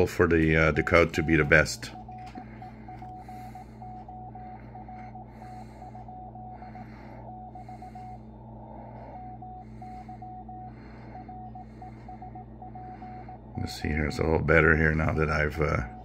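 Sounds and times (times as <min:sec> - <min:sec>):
morse code tone: 0:00.0 - 0:16.0
radio static: 0:00.0 - 0:16.0.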